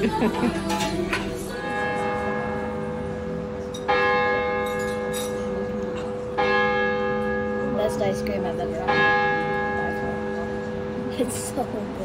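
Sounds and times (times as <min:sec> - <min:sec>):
church bell tolling: 0:01.5 - 0:12.0.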